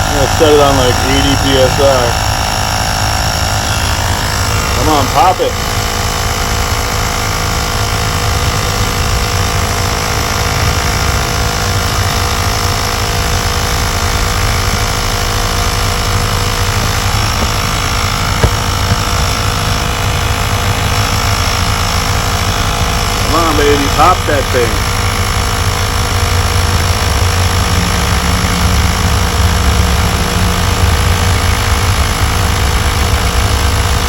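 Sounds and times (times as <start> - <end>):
air compressor running: 0.0 - 34.0.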